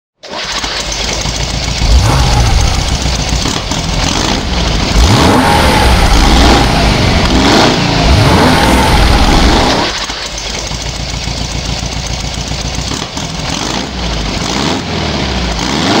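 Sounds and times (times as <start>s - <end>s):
engine revving: 0.2s - 16.0s.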